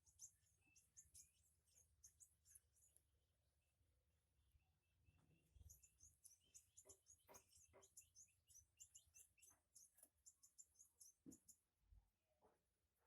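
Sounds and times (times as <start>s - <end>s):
small bird chirping: 0.0s - 12.6s.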